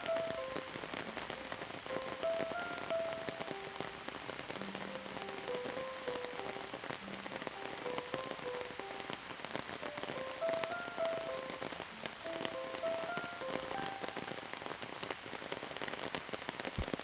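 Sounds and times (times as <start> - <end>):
soft slow melody of held notes: 0.0 - 15.1
rain pattering: 0.0 - 17.0.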